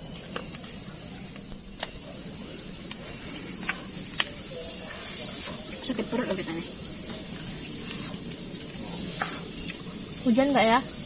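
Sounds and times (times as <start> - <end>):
forest insects chorus: 0.0 - 11.0.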